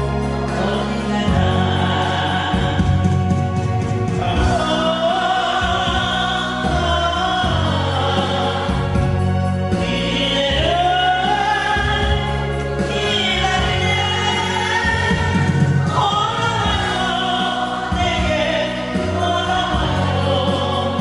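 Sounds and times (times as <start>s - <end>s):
group of voices singing: 0.0s - 21.0s
instrumental backing track: 0.0s - 21.0s.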